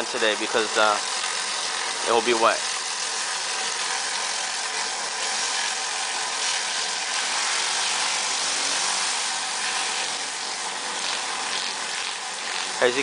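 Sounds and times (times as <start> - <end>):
pressure washer water hissing: 0.0 - 13.0.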